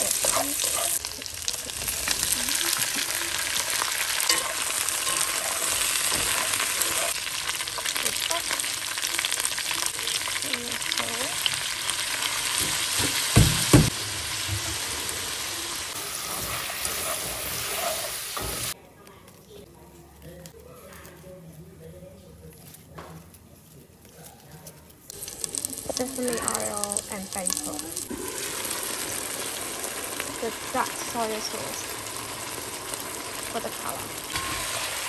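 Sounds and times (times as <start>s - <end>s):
food sizzling in a wok: 0.0s - 18.8s, 25.1s - 35.0s.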